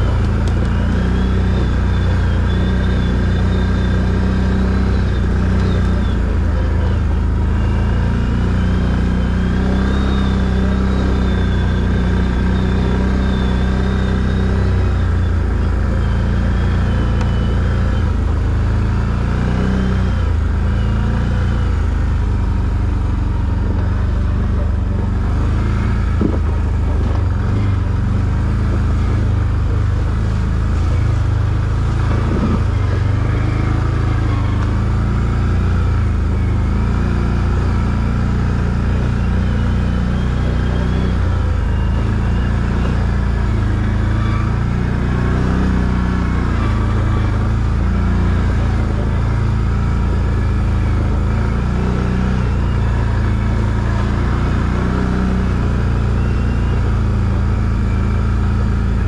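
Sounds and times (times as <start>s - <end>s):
quad bike engine rumbling: 0.0s - 59.0s.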